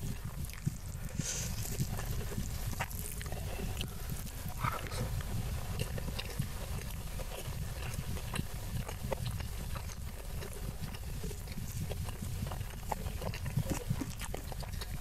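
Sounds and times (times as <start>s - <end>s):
person chewing food: 0.0s - 15.0s
wet mouth clicks: 0.0s - 15.0s.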